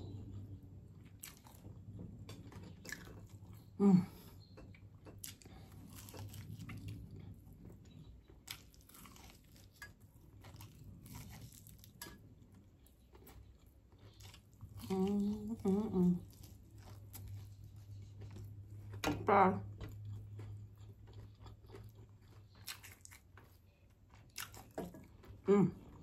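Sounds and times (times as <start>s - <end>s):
steady low hum: 0.0s - 22.4s
chewing and crunching: 0.0s - 26.0s.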